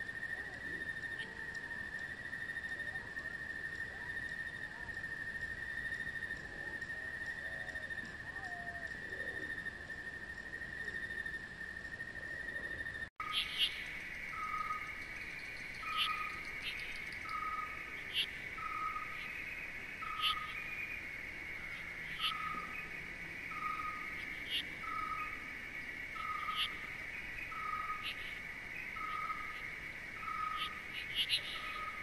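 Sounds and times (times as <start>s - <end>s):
insect trill: 0.0s - 32.0s.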